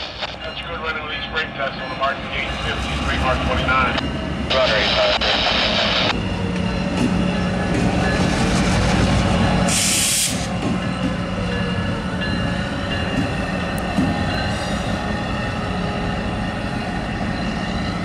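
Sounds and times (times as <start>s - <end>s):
train wheels rumbling over rails: 1.6s - 18.0s.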